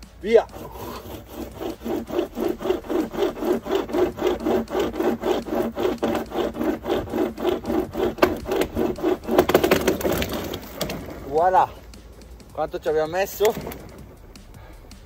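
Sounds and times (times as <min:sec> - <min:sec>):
hand chain saw cutting branch: 0:00.3 - 0:12.3, 0:13.0 - 0:14.9.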